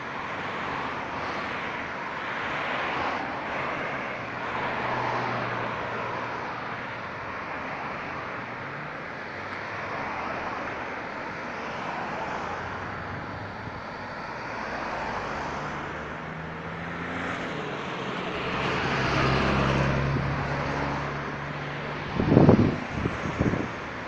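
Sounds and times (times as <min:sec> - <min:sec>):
cars passing by: 0:00.0 - 0:24.0
minibus engine hum: 0:00.0 - 0:24.0.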